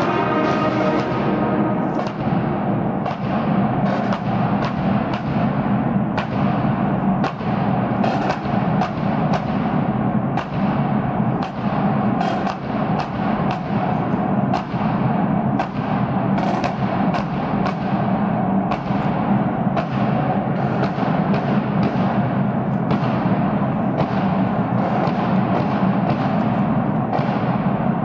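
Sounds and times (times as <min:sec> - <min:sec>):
marching drums playing: 0:00.0 - 0:28.0
steady low hum: 0:00.0 - 0:28.0.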